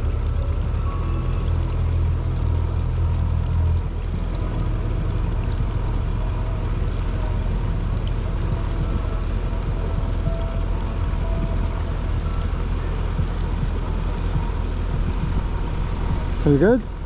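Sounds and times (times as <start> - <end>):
jet ski engine rumble: 0.0 - 17.0
rushing water: 0.0 - 17.0.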